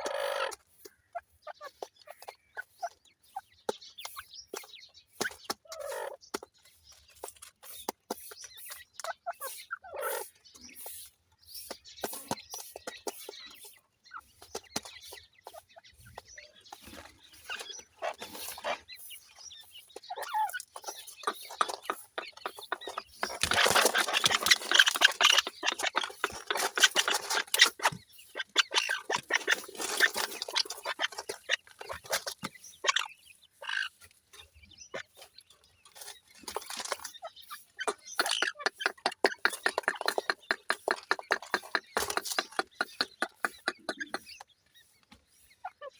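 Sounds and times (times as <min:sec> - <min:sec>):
chicks cheeping: 0:00.0 - 0:45.9
chicks pecking taps: 0:00.4 - 0:34.4, 0:35.0 - 0:45.3.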